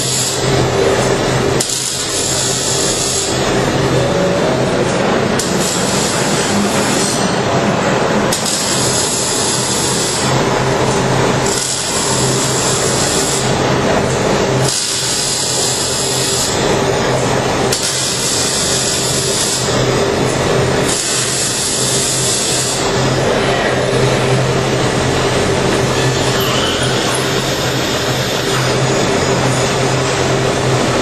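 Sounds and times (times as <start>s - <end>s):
welding arc crackling and hissing: 0.0s - 31.0s.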